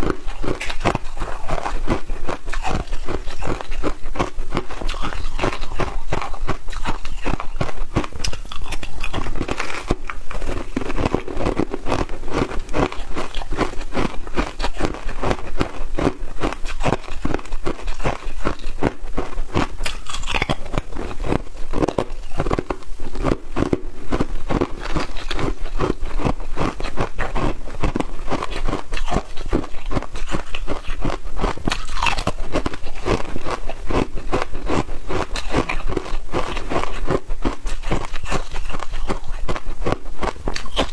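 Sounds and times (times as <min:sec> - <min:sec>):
ice crunching between teeth: 0:00.0 - 0:40.9.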